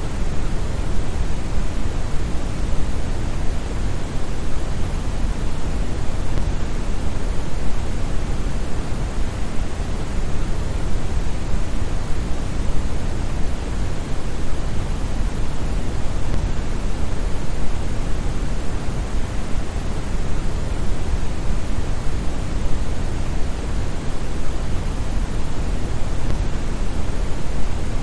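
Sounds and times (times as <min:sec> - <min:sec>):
brown noise hiss: 0:00.0 - 0:28.0.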